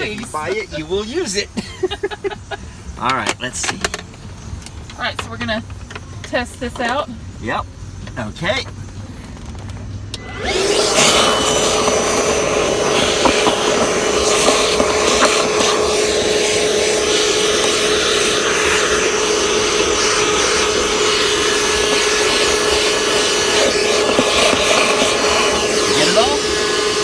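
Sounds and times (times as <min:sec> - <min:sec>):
wet-dry vacuum whining: 0:00.0 - 0:27.0.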